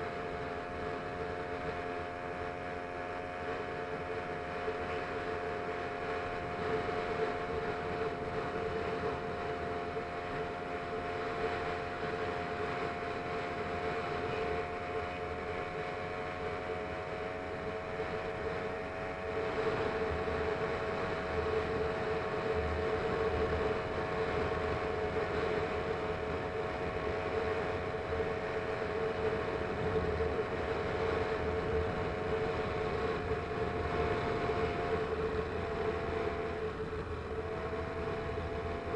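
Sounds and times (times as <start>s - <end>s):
small engine droning: 0.0s - 38.9s.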